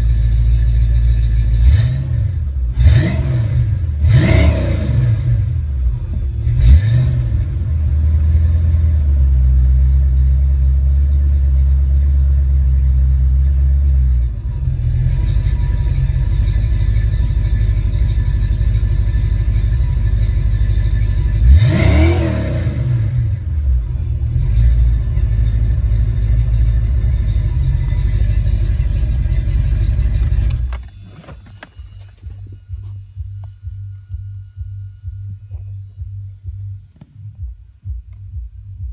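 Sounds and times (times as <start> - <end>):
car engine idling: 0.0 - 38.9
low hum: 0.0 - 38.9.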